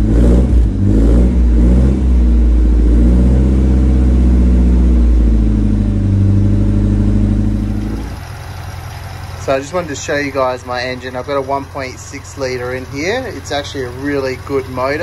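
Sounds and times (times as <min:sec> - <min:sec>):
car engine running at exhaust: 0:00.0 - 0:15.0.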